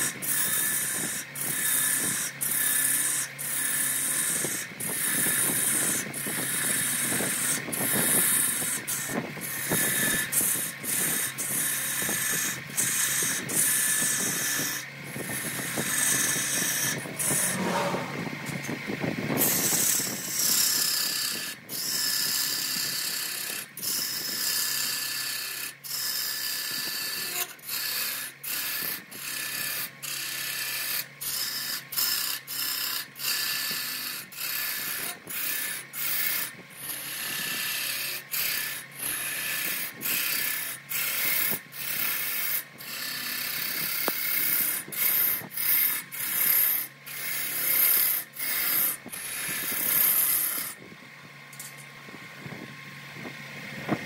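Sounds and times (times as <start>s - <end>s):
lathe gouge shaving wood: 0.0s - 50.8s
faint lathe hum: 0.0s - 54.0s.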